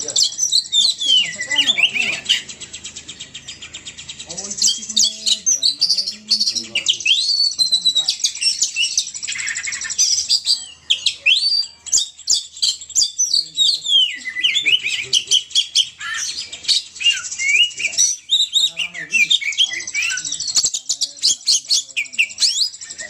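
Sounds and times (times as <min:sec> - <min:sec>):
songbird chirps and twitters: 0:00.0 - 0:23.0.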